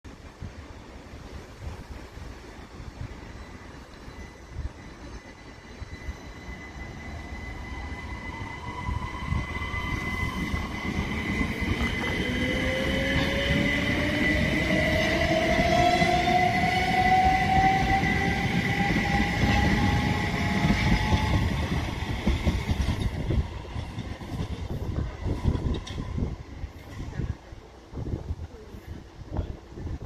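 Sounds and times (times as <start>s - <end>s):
electric train traction whine: 2.2s - 26.7s.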